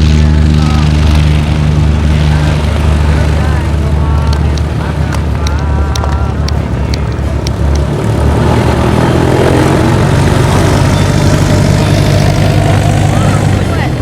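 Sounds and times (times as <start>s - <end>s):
loud engine running: 0.0s - 14.0s.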